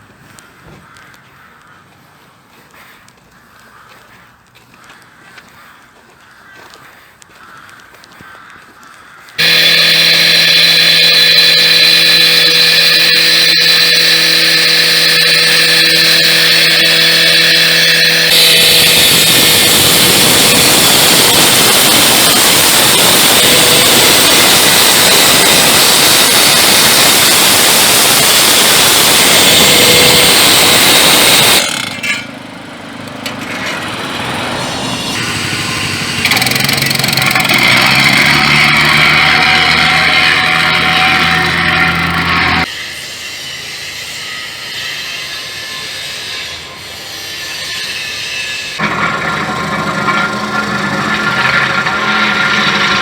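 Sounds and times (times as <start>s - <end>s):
road-repair machine engine running: 9.4s - 53.0s.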